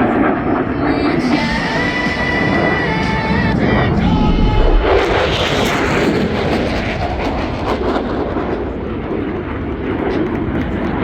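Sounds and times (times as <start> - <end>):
jet roar passing: 0.0 - 10.2.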